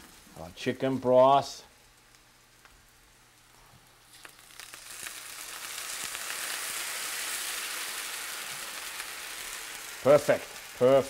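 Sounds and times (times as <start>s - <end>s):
broth sizzling in a skillet: 1.0s - 11.0s.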